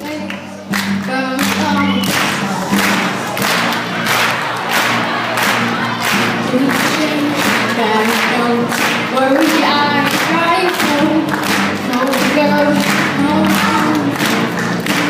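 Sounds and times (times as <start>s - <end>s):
person singing: 0.0s - 3.4s, 5.5s - 15.0s
strummed acoustic guitar: 0.0s - 15.0s.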